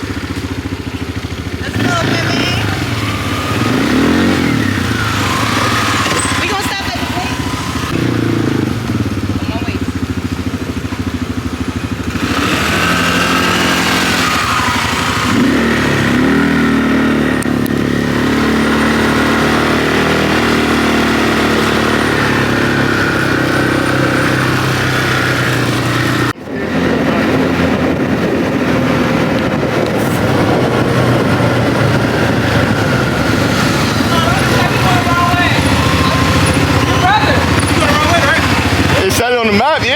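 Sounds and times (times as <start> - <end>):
vehicle engine pulling away: 0.0 - 39.9.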